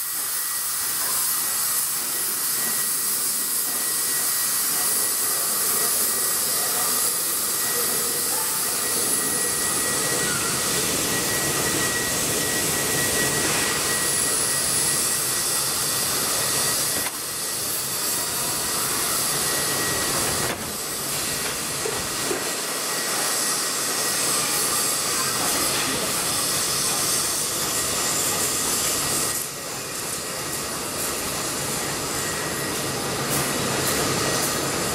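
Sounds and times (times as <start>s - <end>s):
steam locomotive hissing: 0.0s - 34.9s
thin steady whine: 0.0s - 34.9s.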